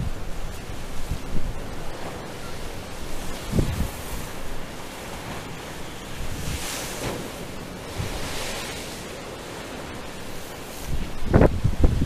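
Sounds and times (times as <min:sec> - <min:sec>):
waves breaking against a wall: 0:00.0 - 0:12.0
wind buffeting microphone: 0:00.0 - 0:12.0.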